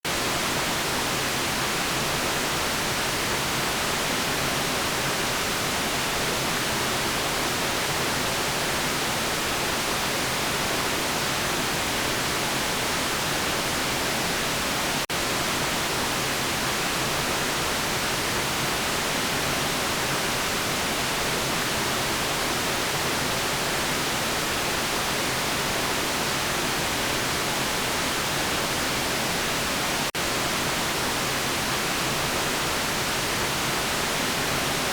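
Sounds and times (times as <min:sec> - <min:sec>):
white noise hiss: 0:00.1 - 0:34.9.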